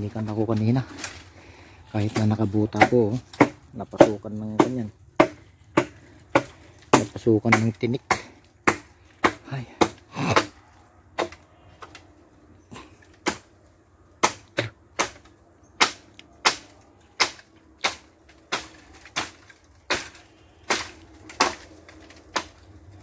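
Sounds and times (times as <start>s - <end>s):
chopping bamboo stems: 0.0s - 12.0s, 12.7s - 13.5s, 14.1s - 23.0s.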